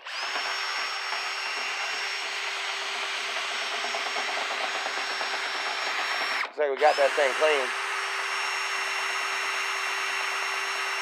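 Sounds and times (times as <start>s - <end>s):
electric motor running: 0.0s - 11.0s.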